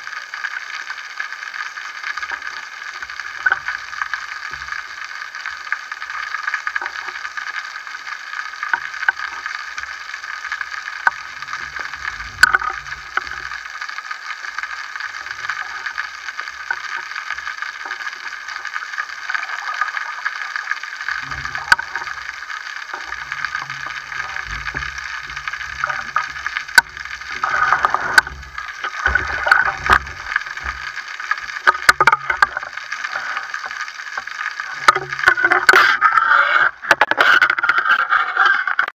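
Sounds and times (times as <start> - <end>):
underwater hiss: 0.0 - 36.7.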